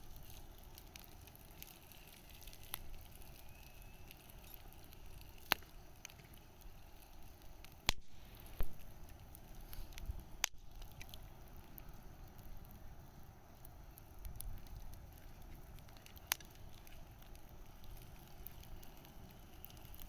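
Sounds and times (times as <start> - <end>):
bonfire crackling: 0.0 - 20.0
low steady hiss: 0.0 - 20.0
sharp fire pops: 0.0 - 20.0.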